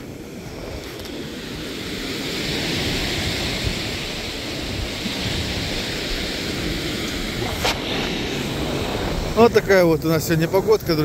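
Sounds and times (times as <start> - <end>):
surf washing up a pebble beach: 0.0 - 11.0
wind buffeting microphone: 0.0 - 11.0.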